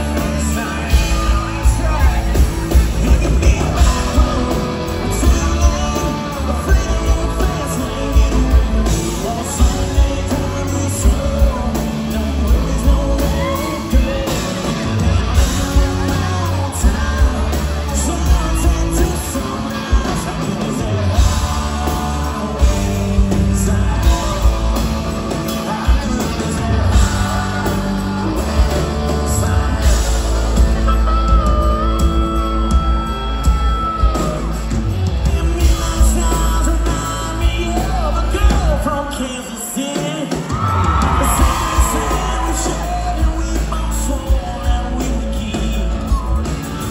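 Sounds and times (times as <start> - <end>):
bass guitar: 0.0 - 46.9
drums: 0.0 - 46.9
electric guitars: 0.0 - 46.9
man singing: 0.0 - 46.9.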